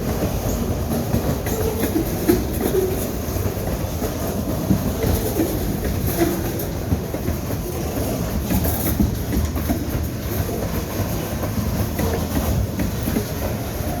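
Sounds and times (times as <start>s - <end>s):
train cars rumbling: 0.0s - 14.0s
wheels clacking: 0.0s - 14.0s.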